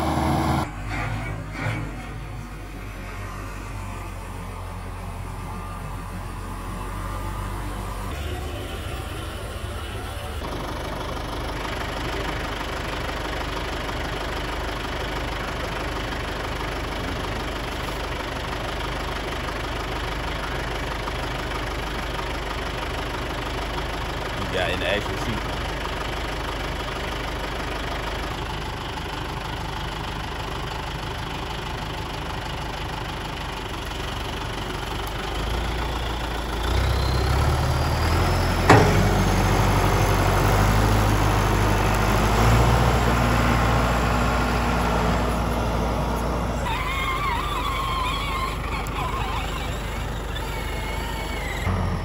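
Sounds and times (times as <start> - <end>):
tractor diesel engine: 0.0 - 52.0.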